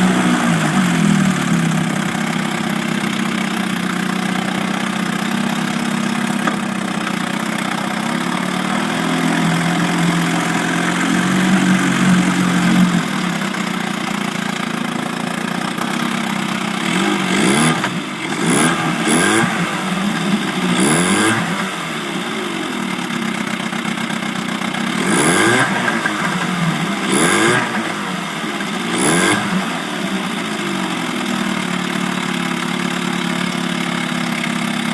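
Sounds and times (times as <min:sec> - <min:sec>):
small gasoline engine idling: 0:00.0 - 0:34.9.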